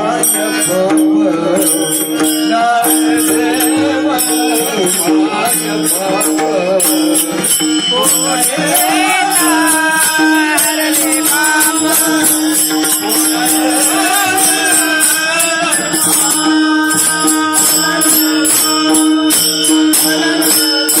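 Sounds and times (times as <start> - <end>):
jingling percussion: 0.0 - 21.0
wavering melody: 0.0 - 21.0.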